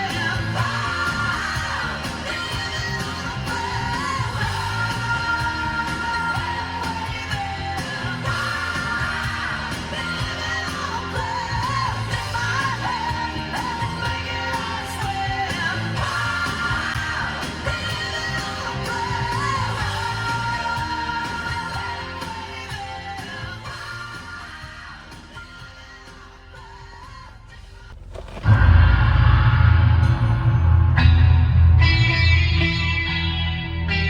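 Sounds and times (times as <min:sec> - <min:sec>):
rock-pop song from car speakers: 0:00.0 - 0:34.0.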